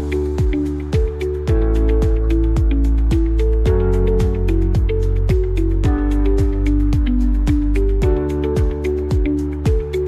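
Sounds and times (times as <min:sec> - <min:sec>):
music with deep thumping beat: 0:00.0 - 0:10.0.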